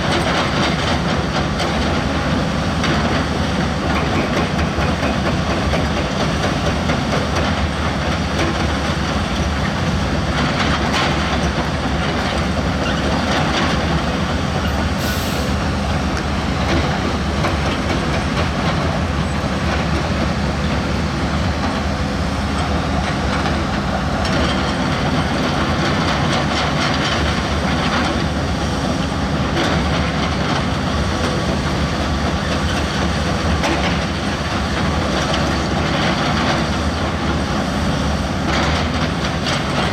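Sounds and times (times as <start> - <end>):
diesel construction machine engine: 0.0 - 39.9.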